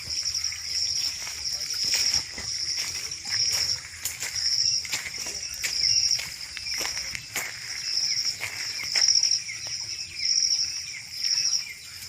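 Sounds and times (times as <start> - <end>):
insects calling in pulsing chorus: 0.0 - 12.0.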